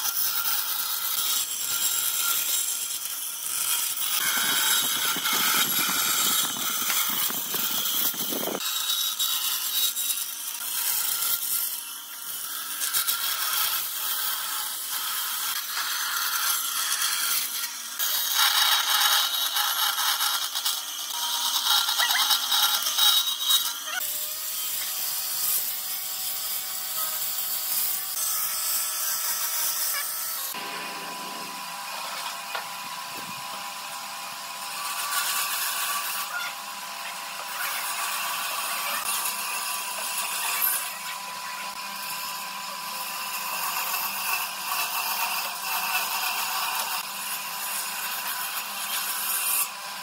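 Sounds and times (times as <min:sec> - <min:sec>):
woodworking tools scraping wood: 0:00.0 - 0:50.0.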